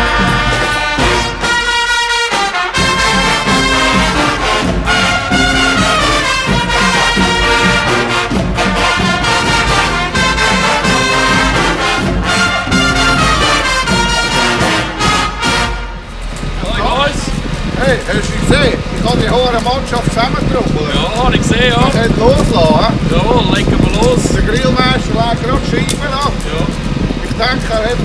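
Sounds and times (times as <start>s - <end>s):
brass band playing: 0.0s - 25.2s.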